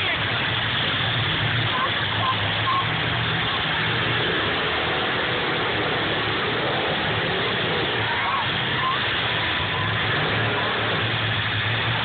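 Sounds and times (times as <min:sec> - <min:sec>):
car engines idling: 0:00.0 - 0:12.0
noisy din: 0:00.0 - 0:12.0.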